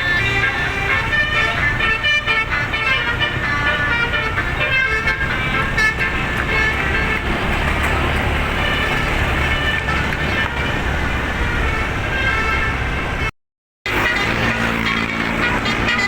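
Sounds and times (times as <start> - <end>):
low engine rumble: 0.0 - 13.3
musical air horn melody: 0.0 - 13.3, 13.9 - 16.0.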